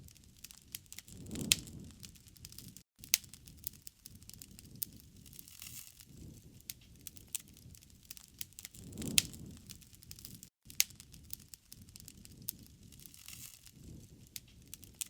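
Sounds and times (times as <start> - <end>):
low rumble of flame: 0.0 - 15.0
wood fire crackling: 0.0 - 15.0.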